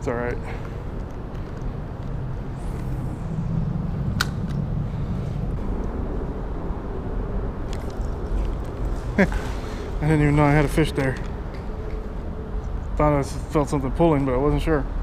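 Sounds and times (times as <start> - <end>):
traffic rumbling on bridge overhead: 0.0 - 15.0.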